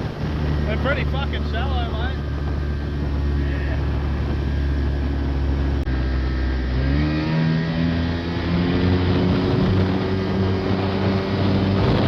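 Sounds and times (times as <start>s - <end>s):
boat engine revving: 0.0s - 12.0s.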